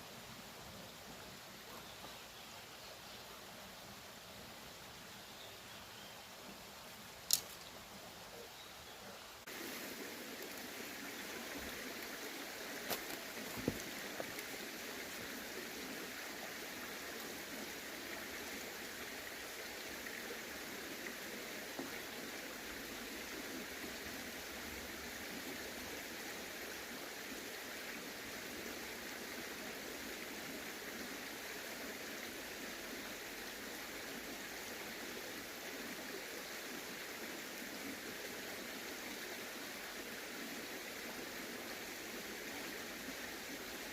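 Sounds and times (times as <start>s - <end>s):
stream water running: 0.0s - 43.9s.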